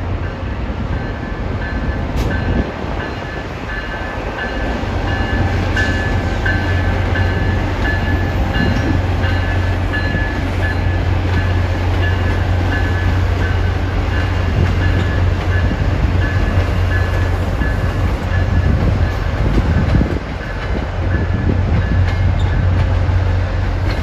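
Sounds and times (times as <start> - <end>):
train engine drone: 0.0 - 24.0
locomotive bell ringing: 0.2 - 24.0.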